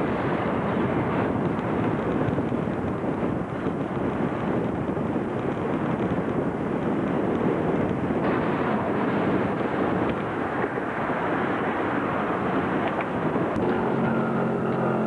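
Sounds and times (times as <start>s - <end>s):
outdoor rushing rumble: 0.0s - 15.0s.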